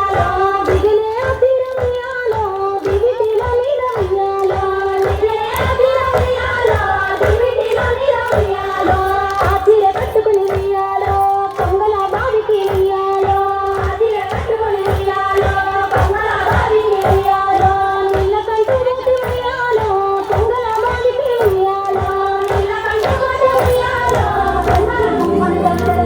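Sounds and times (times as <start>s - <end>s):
women singing folk song together: 0.0s - 26.0s.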